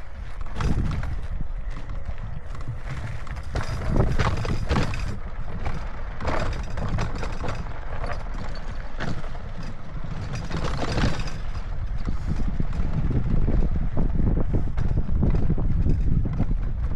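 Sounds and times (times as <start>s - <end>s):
bike tyres rumbling on dirt: 0.0s - 16.9s
wind on microphone: 0.0s - 16.9s
bike clattering over rocks: 0.2s - 16.9s.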